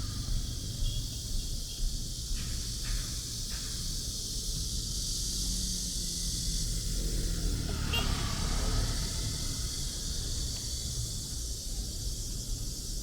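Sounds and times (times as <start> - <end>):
constant high hiss: 0.0 - 13.0.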